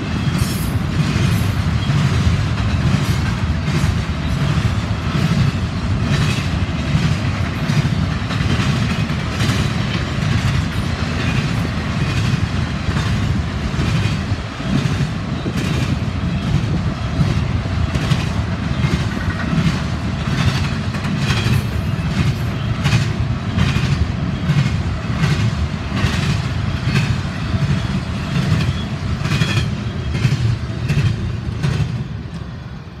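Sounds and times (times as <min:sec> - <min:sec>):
train rumbling past: 0:00.0 - 0:33.0
train wheel clicks: 0:00.3 - 0:32.4.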